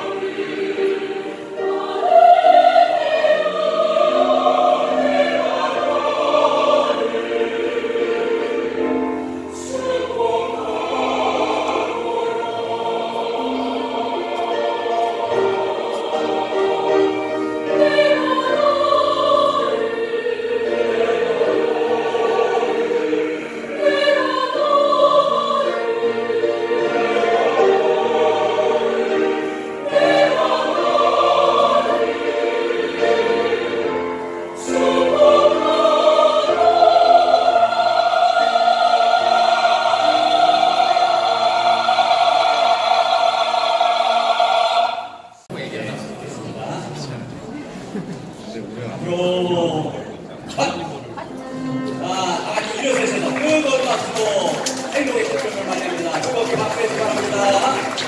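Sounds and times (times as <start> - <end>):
choir singing: 0.0 - 45.5, 48.9 - 58.0.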